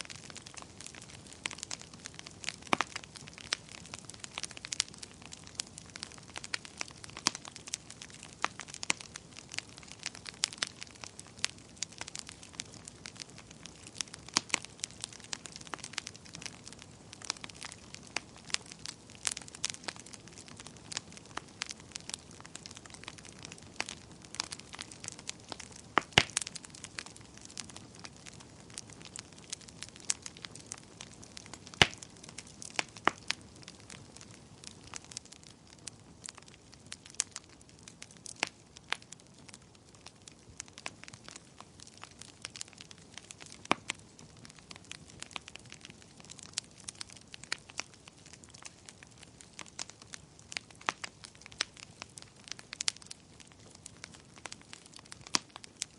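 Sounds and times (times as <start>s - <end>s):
burning wood popping: 0.0s - 55.9s.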